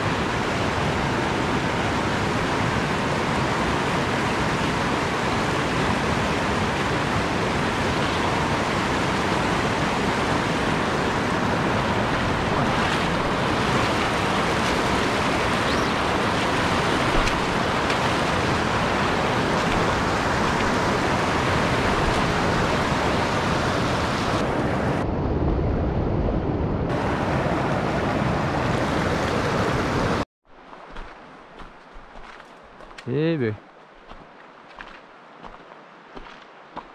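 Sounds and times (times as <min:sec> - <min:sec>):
stream rushing over boulders: 0:00.0 - 0:24.5, 0:26.9 - 0:36.9.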